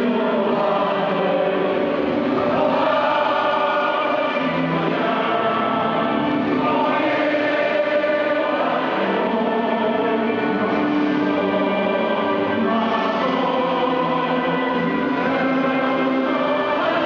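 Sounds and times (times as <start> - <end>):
choir singing long held notes: 0.0 - 17.0.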